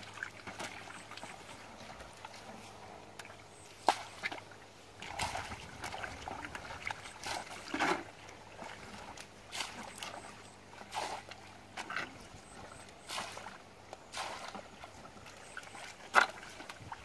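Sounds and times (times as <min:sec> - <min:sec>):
splashing in muddy water: 0:00.0 - 0:17.0.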